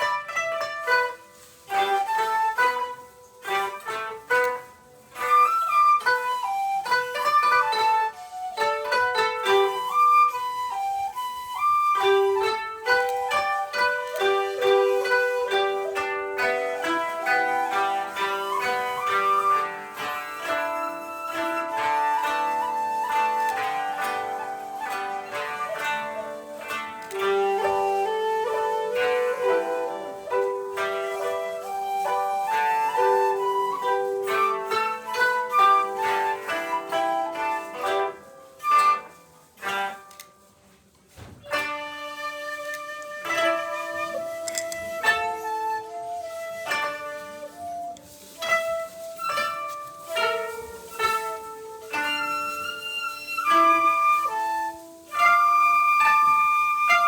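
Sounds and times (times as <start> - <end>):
bamboo flute melody: 0.0 - 57.0.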